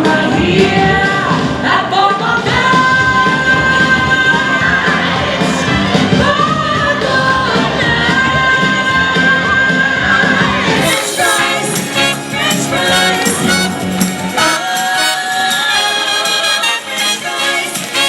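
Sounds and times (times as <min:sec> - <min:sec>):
female vocal group singing: 0:00.0 - 0:18.0
instrumental backing music: 0:00.0 - 0:18.0.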